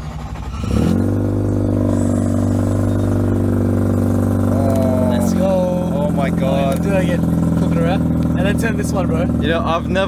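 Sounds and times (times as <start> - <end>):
rotary engine starting and idling: 0.0 - 10.0.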